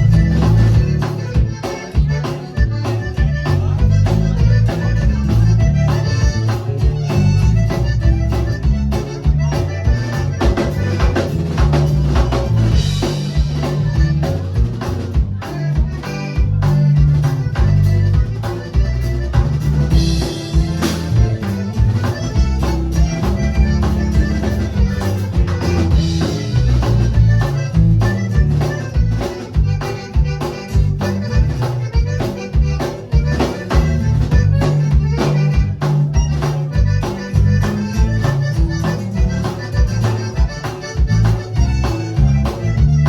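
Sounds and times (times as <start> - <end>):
accordion playing: 0.0 - 43.0
bass line: 0.0 - 43.0
percussion hits: 0.0 - 43.0.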